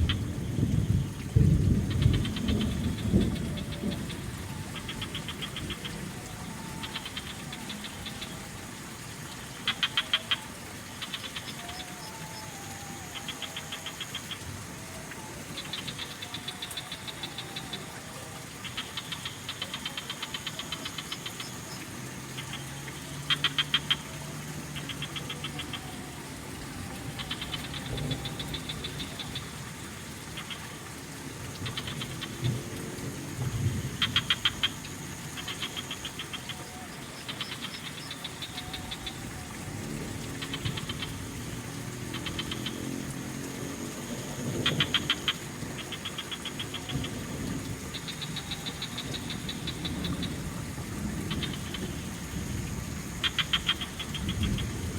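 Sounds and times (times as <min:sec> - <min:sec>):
frogs calling in rattling pulses: 0:00.0 - 0:54.9
trickling water: 0:00.0 - 0:54.9.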